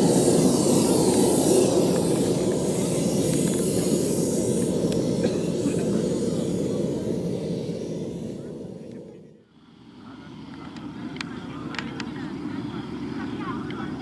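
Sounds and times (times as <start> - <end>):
model jet turbine engine: 0.0 - 14.0.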